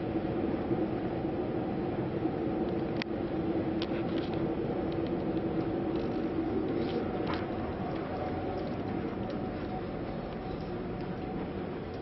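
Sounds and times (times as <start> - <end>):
ferry machinery droning hum: 0.0 - 12.0.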